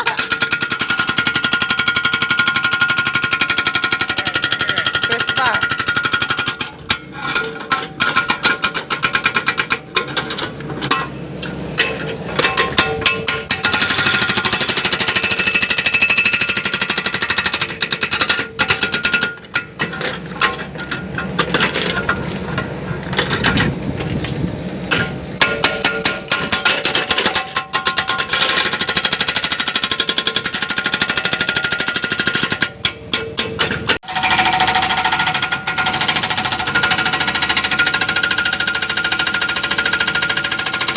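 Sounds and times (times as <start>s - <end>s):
hydraulic breaker hammering rock: 0.0s - 23.8s, 24.9s - 40.9s.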